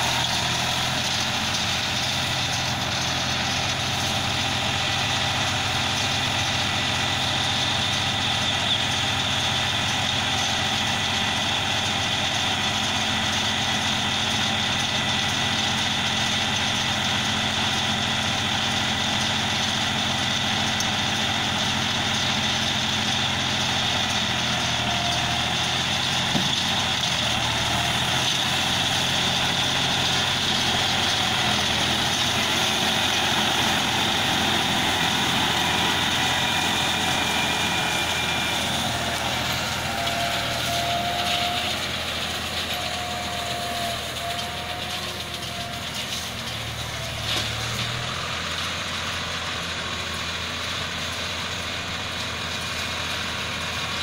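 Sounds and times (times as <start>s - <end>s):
round baler working: 0.0s - 54.0s
tractor diesel engine running: 0.0s - 54.0s.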